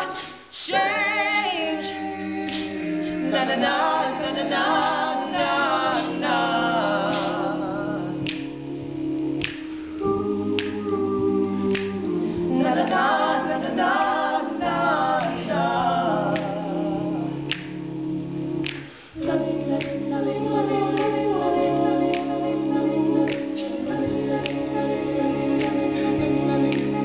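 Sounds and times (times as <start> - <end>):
male a cappella group singing: 0.0 - 27.0.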